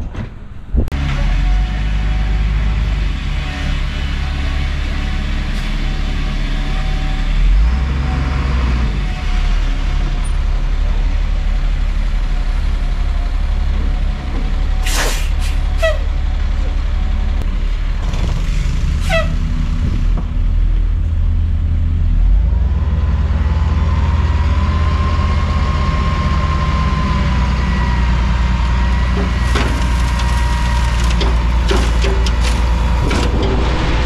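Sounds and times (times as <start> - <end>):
truck engine under load: 0.0 - 34.0.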